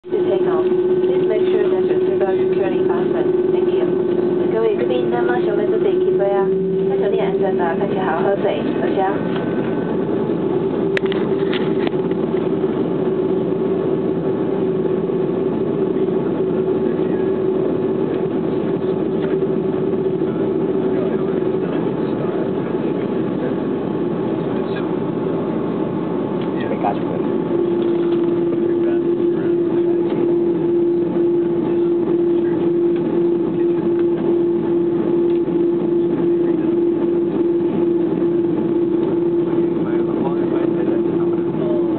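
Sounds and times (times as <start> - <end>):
airliner engines droning: 0.0 - 41.9
continuous rushing noise: 0.0 - 41.9.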